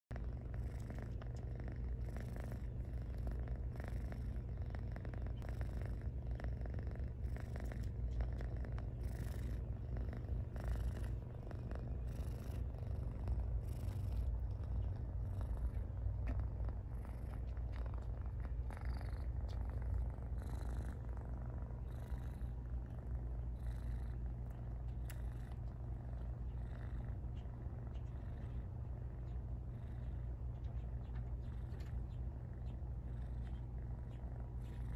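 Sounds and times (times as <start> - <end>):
kitten purring: 0.1 - 34.9.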